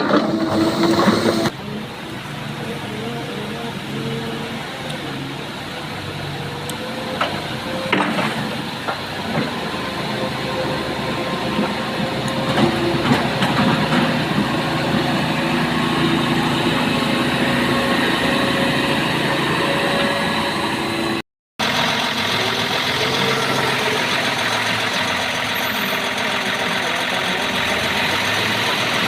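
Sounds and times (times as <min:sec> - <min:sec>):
diesel excavator engine running: 0:00.0 - 0:29.0.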